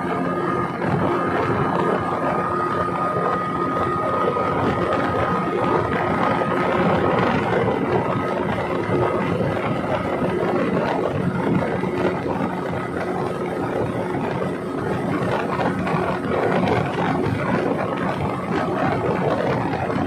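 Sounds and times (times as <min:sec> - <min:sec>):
speedboat engine drone: 0:00.0 - 0:20.0
water rushing over hull: 0:00.0 - 0:20.0.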